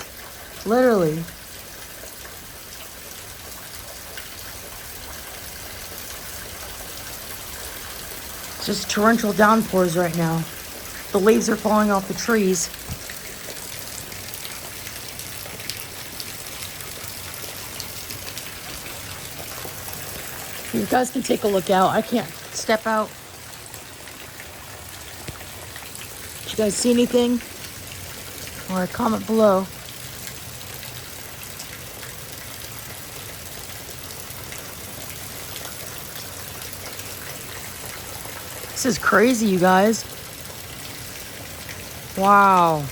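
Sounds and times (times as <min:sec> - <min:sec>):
drips ticking: 0:00.0 - 0:42.9
heavy rain falling: 0:00.0 - 0:42.9
water gushing and splashing: 0:00.0 - 0:42.9
sharp raindrop taps: 0:01.3 - 0:22.6, 0:23.6 - 0:42.2.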